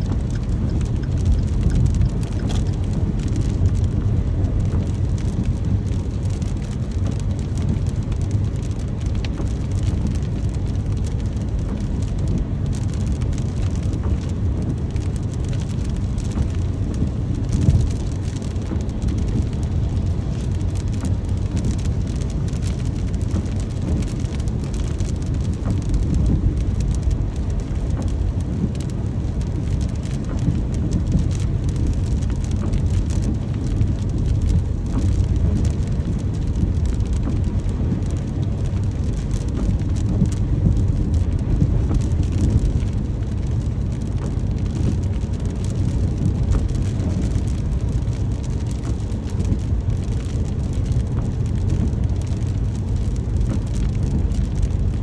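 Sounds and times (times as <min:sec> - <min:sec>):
deep low rumble: 0:00.0 - 0:55.0
steady rain: 0:00.0 - 0:55.0.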